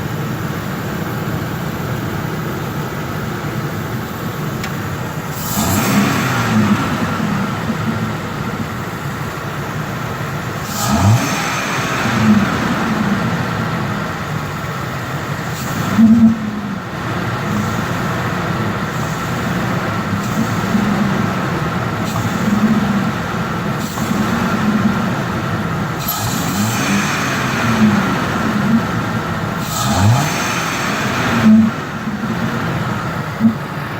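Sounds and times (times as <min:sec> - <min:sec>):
intake noise: 0:00.0 - 0:33.9
engine revving: 0:03.7 - 0:33.9.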